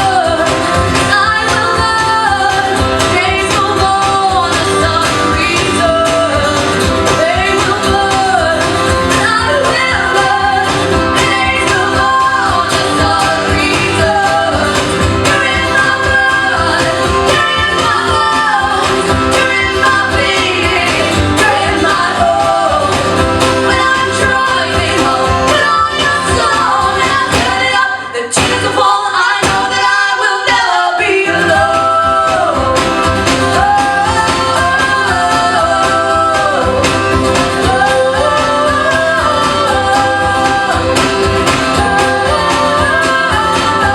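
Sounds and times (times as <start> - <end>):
acoustic guitar: 0.0 - 43.9
women singing: 0.0 - 43.9.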